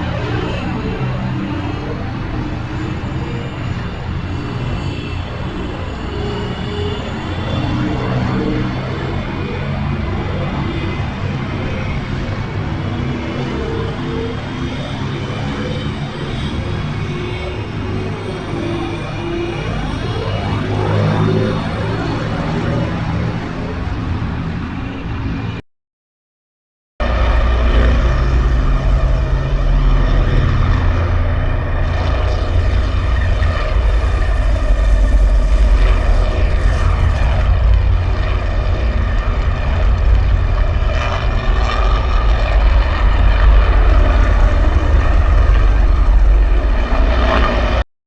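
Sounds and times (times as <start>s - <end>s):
engine drone with low rumble: 0.0s - 25.6s, 27.0s - 47.8s.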